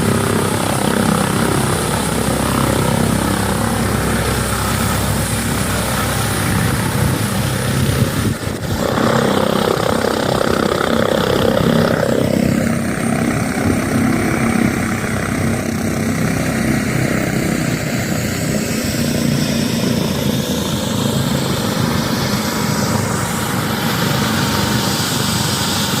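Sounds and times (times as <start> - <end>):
helicopter rotor and turbine noise: 0.0 - 26.0.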